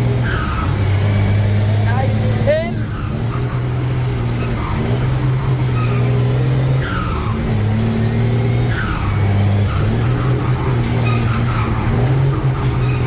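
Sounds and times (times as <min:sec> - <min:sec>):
vehicle engine droning: 0:00.0 - 0:13.0
short descending squeals: 0:00.2 - 0:13.0.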